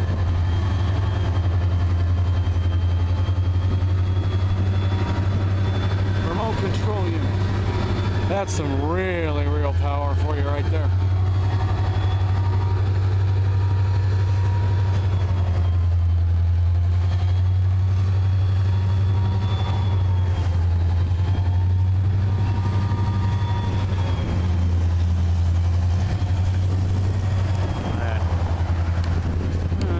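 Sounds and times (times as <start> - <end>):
diesel locomotive engine drone: 0.0 - 29.9
thin whining tones: 0.0 - 29.9.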